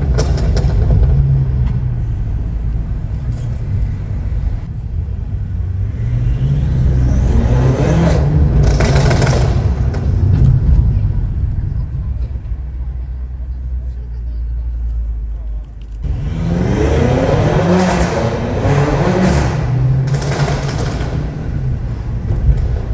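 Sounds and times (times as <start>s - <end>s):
car engine revving: 0.0s - 13.6s, 15.9s - 22.9s.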